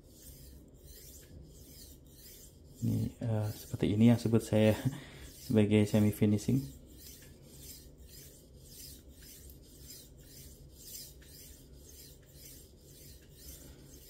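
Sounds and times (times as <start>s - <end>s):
knife scraping on whetstone: 0.0s - 4.5s, 5.2s - 14.0s.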